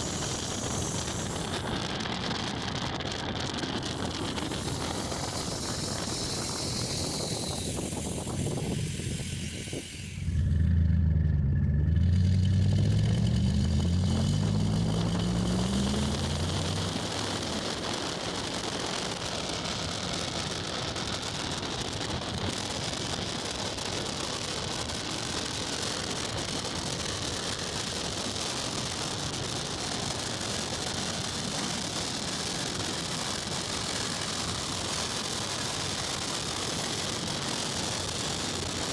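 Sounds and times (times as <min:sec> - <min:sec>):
misfiring engine pulling hard: 0:00.0 - 0:38.9
road and wind noise: 0:00.0 - 0:38.9.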